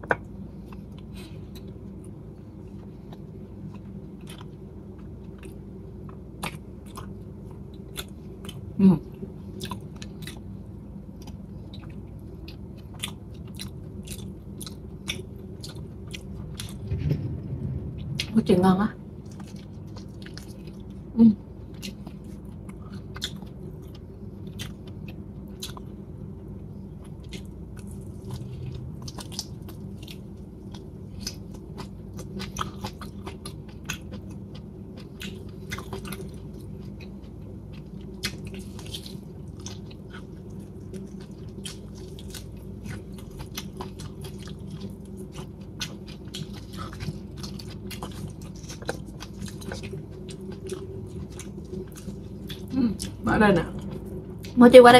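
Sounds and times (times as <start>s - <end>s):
chewing with wet mouth clicks: 0.0s - 8.7s, 9.6s - 10.5s, 11.1s - 16.8s, 21.7s - 26.0s, 27.0s - 53.2s
faint steady hum: 0.0s - 54.9s.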